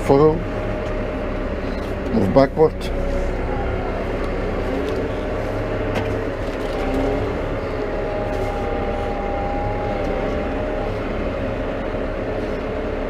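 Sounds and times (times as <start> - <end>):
steady whine: 0.0 - 13.0
tractor diesel engine running: 0.0 - 13.0.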